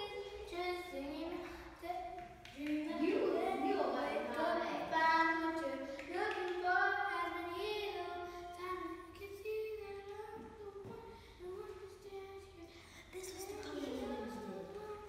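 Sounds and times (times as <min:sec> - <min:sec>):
child singing: 0:00.0 - 0:15.0.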